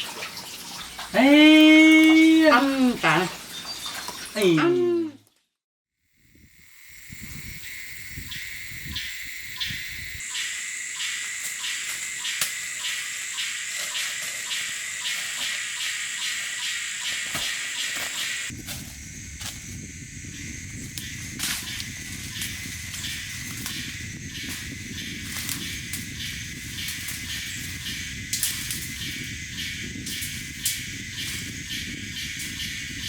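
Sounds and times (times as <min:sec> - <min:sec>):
insect chorus: 0:06.1 - 0:33.0.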